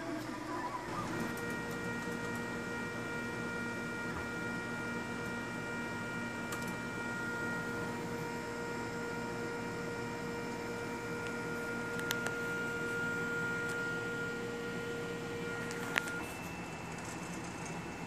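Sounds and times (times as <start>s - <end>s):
printer electrical hum with tones: 0.0s - 18.0s.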